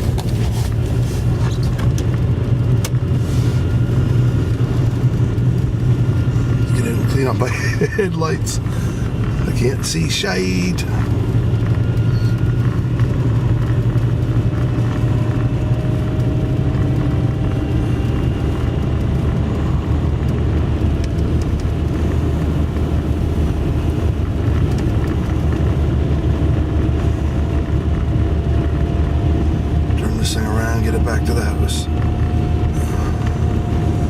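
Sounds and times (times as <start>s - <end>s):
faint steady whine: 0.0s - 34.0s
vehicle engine droning: 0.0s - 34.0s.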